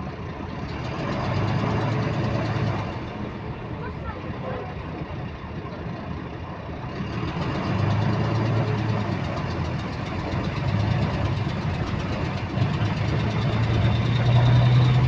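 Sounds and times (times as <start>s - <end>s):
bus engine droning: 0.0s - 15.0s
repetitive engine clicking: 0.3s - 4.6s, 6.9s - 15.0s.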